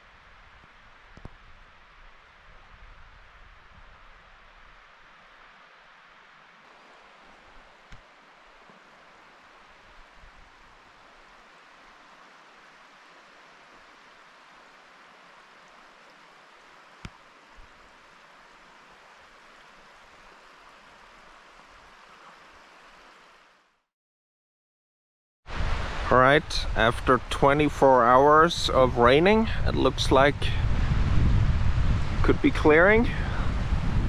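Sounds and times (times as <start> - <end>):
wind and water hiss: 0.0 - 23.8, 25.5 - 34.0.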